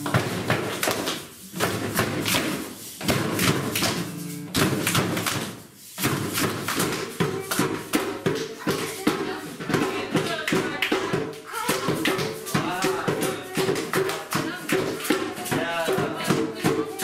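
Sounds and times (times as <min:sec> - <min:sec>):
children clapping in rhythm: 0:00.0 - 0:17.0.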